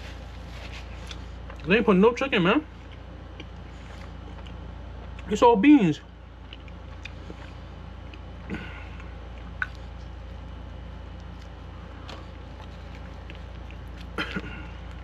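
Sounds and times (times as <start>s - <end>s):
person chewing wet food: 0.0s - 1.8s, 2.6s - 5.4s, 6.1s - 15.0s
steady low hum: 0.0s - 15.0s.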